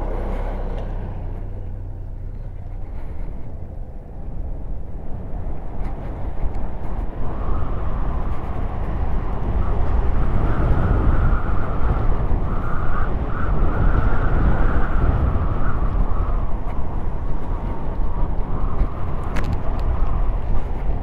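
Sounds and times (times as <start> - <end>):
tyres rolling on asphalt: 0.0 - 21.0
wind buffeting microphone: 0.0 - 21.0.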